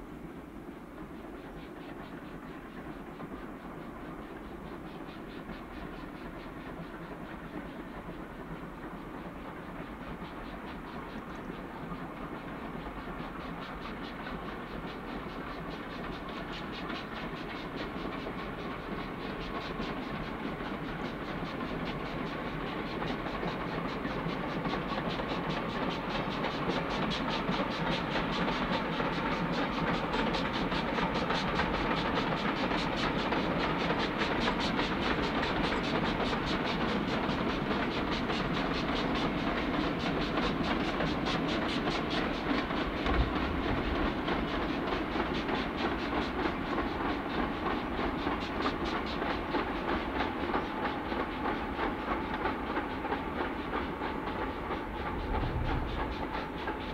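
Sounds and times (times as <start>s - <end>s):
steam train passing: 0.0s - 56.9s.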